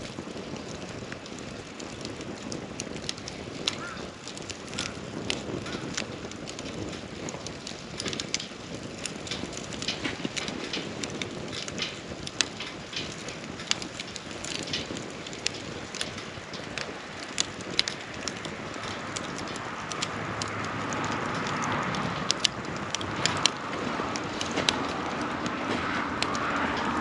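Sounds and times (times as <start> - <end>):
campfire crackling and popping: 0.0 - 27.0
steady rushing background: 2.4 - 27.0.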